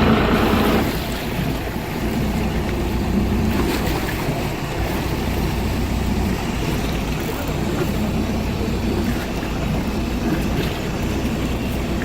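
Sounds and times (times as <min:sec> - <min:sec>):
boat engine rumble: 0:00.0 - 0:12.0
water wash: 0:00.0 - 0:12.0
wind: 0:00.0 - 0:12.0.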